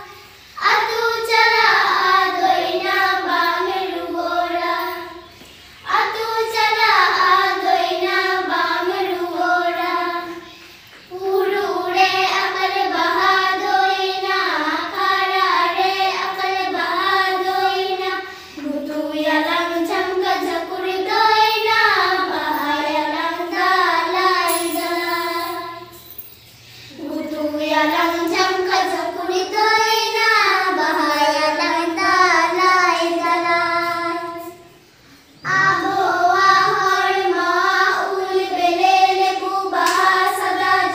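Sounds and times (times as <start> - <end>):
children singing: 0.0 - 26.2, 26.9 - 40.9.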